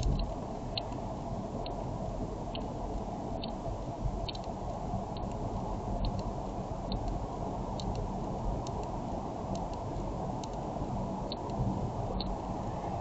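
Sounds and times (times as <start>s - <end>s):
in-cabin road and engine noise: 0.0s - 13.0s.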